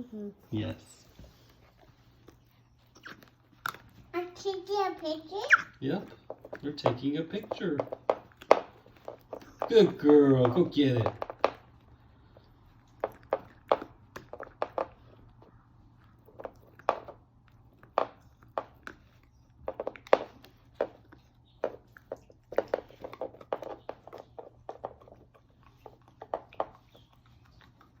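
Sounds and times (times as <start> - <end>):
puppy gnawing a chew bone: 1.0 - 28.0.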